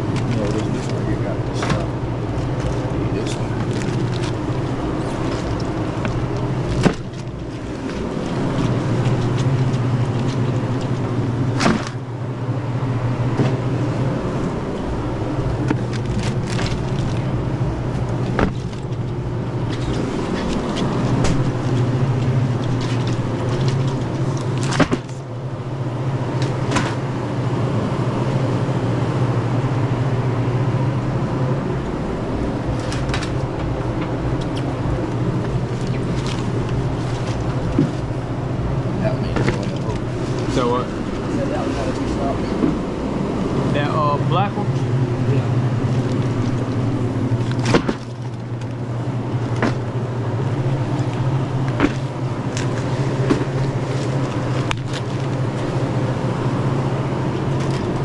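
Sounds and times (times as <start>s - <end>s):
refrigeration unit humming: 0.0s - 58.0s.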